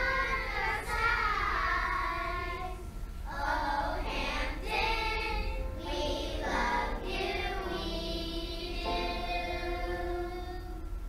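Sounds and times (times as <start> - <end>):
children's choir singing: 0.0 - 11.0.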